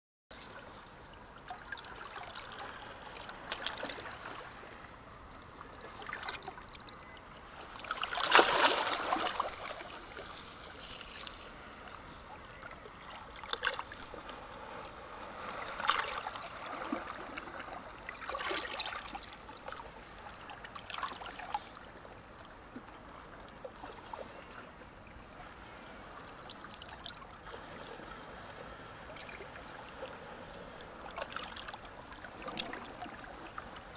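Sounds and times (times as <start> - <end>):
small sea waves washing ashore: 0.4 - 6.7, 7.4 - 33.9.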